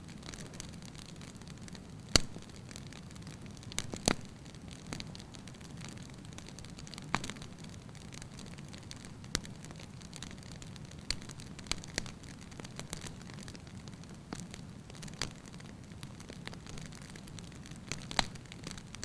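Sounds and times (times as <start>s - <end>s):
fire crackles and pops: 0.0s - 19.0s
low rumble of flame: 0.0s - 19.0s.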